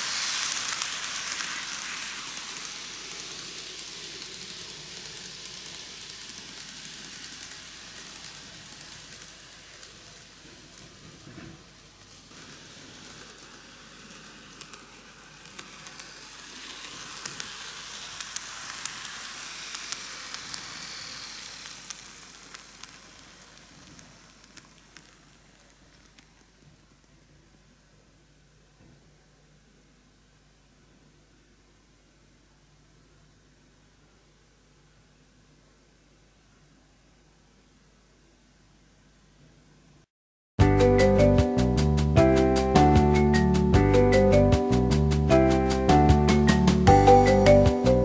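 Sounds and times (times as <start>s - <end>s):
model train wheels and motor hiss: 0.0s - 32.4s, 41.0s - 48.0s.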